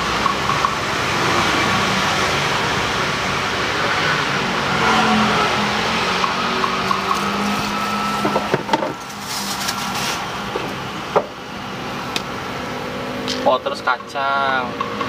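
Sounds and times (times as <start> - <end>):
road noise with engine hum: 0.0 - 15.0.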